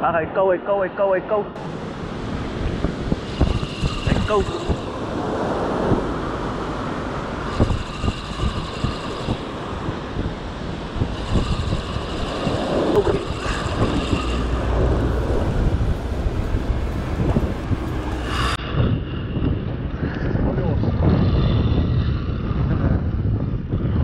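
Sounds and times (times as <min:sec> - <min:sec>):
wind buffeting microphone: 0:01.6 - 0:24.0.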